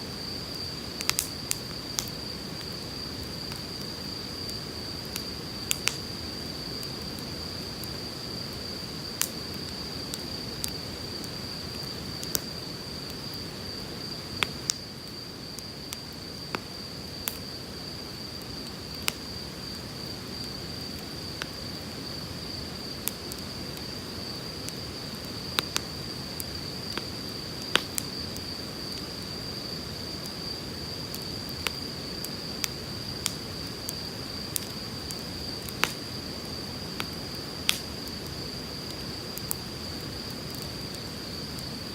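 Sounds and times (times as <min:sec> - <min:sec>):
campfire crackling and popping: 0:00.1 - 0:29.2, 0:29.8 - 0:41.7.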